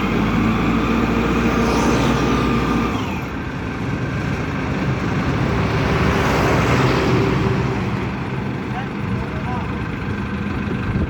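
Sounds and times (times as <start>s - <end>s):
pile driver engine running: 0.0s - 11.0s.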